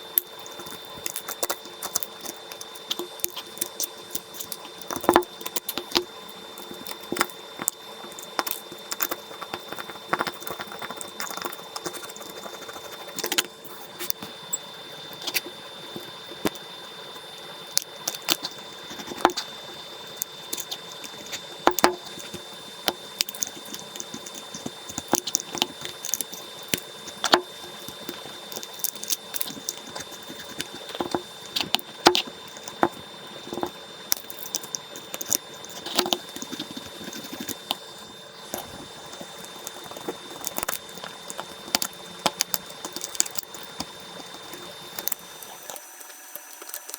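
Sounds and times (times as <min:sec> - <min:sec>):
faint high whine: 0:00.0 - 0:46.9.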